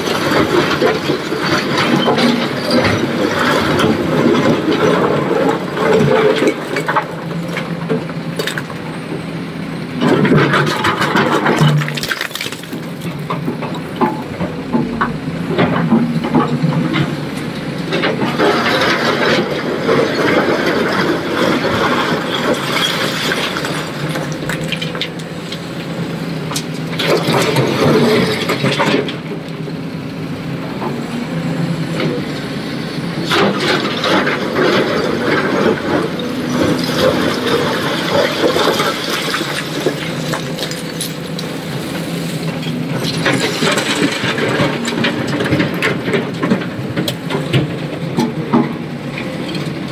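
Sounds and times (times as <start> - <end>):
excavator diesel engine working: 0.0 - 49.9.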